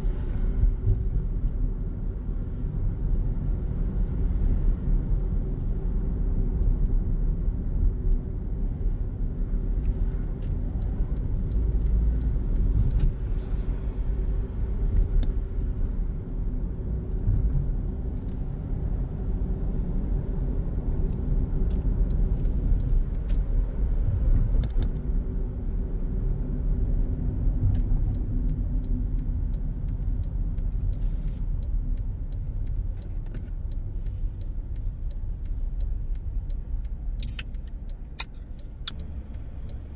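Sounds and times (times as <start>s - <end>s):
car cabin road rumble: 0.0s - 39.9s.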